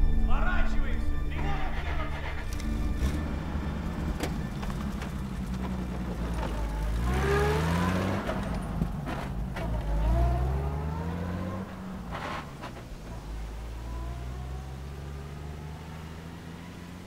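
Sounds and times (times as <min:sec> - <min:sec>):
car engines revving: 0:01.3 - 0:17.0.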